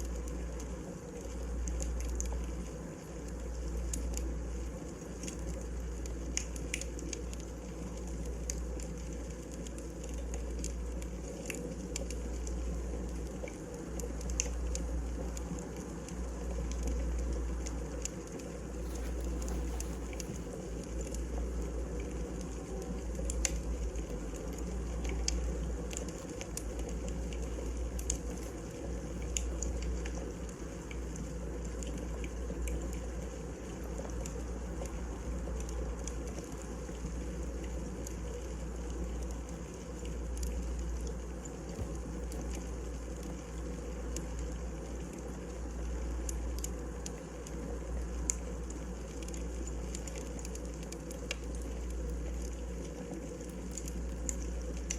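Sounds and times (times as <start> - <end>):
fire rumbling: 0.0 - 54.9
firewood crackling and popping: 0.0 - 54.9.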